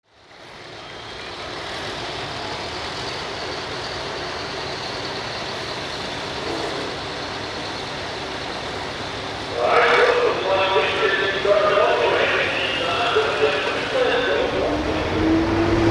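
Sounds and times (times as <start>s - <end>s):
tractor diesel engine running: 0.4s - 15.9s.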